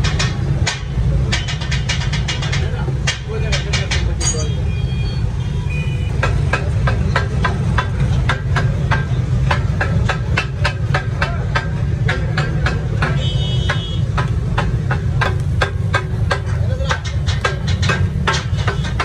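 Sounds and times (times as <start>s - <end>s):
metal spatula striking griddle: 0.0s - 4.6s, 6.2s - 19.0s.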